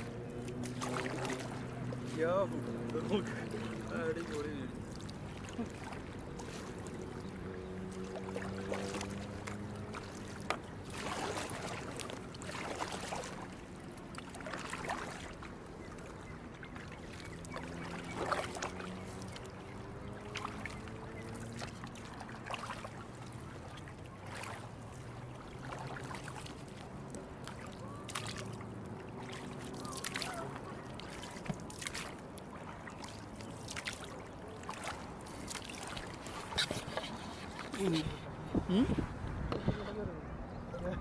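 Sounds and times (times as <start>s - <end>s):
kayak paddles splashing in water: 0.0s - 39.8s.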